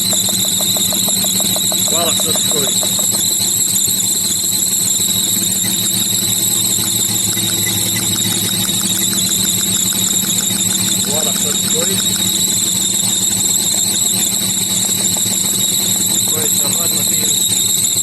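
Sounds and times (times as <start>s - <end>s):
faint rapid ticking: 0.0s - 18.0s
misfiring car engine idling: 0.0s - 18.0s.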